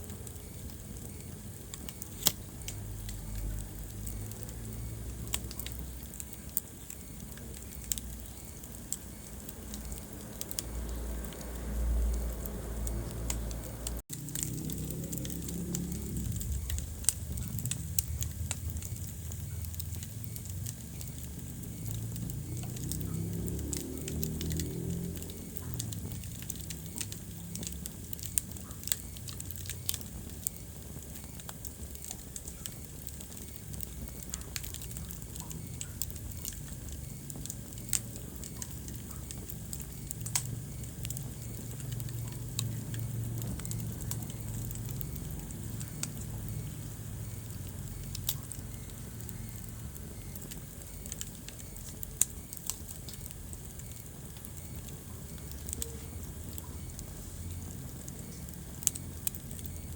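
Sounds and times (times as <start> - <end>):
wood fire crackling in fireplace: 0.0 - 59.9.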